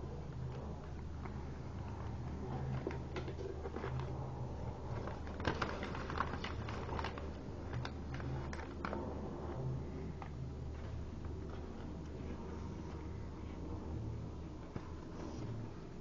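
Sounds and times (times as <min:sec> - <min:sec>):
steady low hum: 0:00.0 - 0:16.0
paper being folded: 0:00.2 - 0:16.0.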